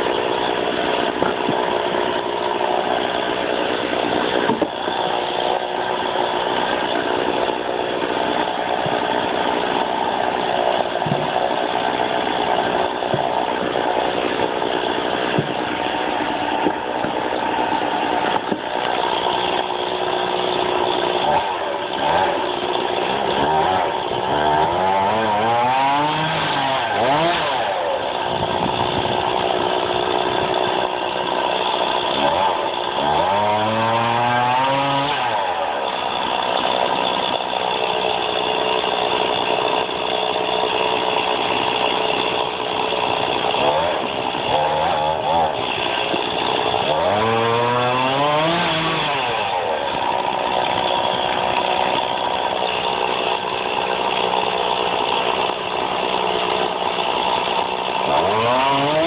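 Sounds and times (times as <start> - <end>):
chainsaw cutting logs: 0.0 - 59.0.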